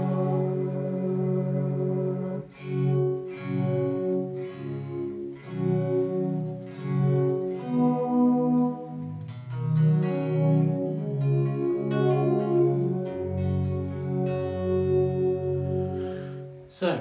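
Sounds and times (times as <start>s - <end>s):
plucked synth melody: 0.0s - 16.6s.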